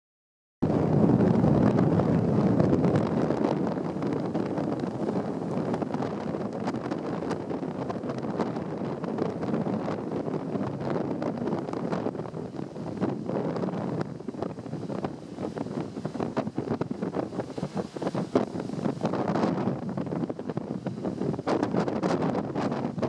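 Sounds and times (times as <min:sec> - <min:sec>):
gale wind buffeting microphone: 0:00.6 - 0:23.0.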